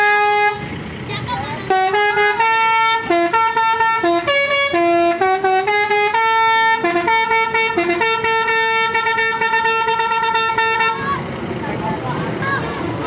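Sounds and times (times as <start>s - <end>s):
multi-tone melodic bus horn: 0.0s - 11.6s.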